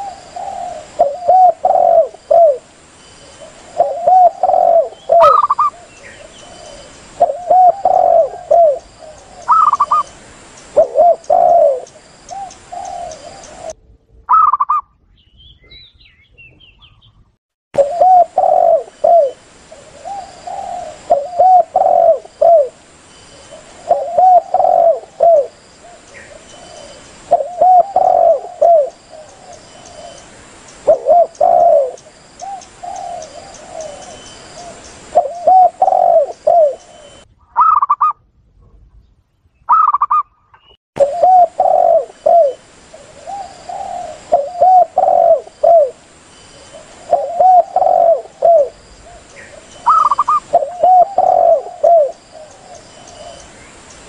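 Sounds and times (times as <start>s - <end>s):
doves cooing: 0.0s - 14.8s, 17.8s - 38.1s, 41.0s - 53.5s
higher-pitched bird calls: 3.3s - 17.2s, 17.8s - 38.2s, 39.6s - 54.0s.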